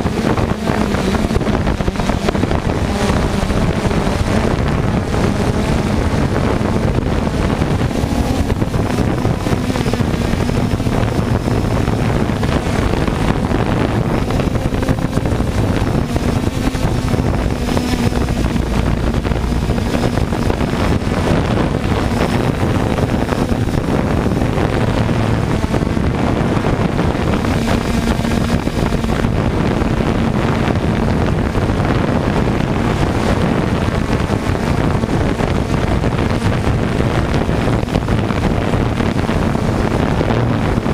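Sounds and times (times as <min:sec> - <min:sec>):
drone propellers rushing: 0:00.0 - 0:40.9
faint motor whine: 0:00.0 - 0:40.9.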